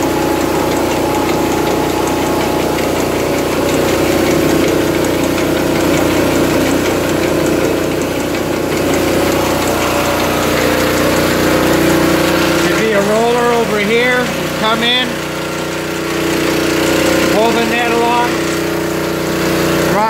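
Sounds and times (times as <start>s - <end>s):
fine rapid ticking: 0.0s - 20.0s
net lifter mechanical drone: 0.0s - 20.0s.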